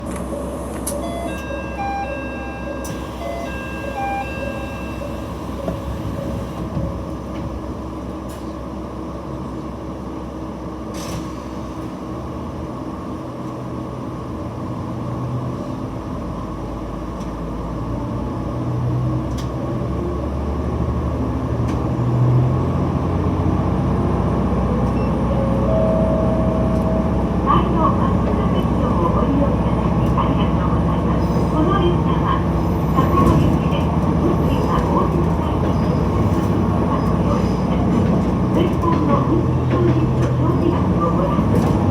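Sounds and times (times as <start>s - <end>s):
diesel railcar engine running: 0.0s - 41.9s.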